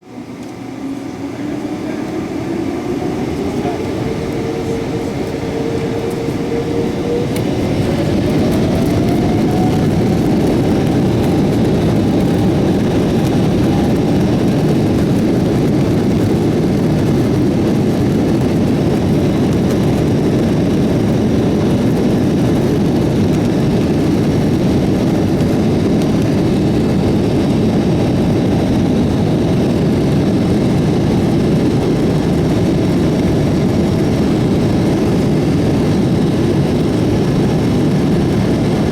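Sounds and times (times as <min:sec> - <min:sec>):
jet engines spooling up: 0:00.0 - 0:38.9.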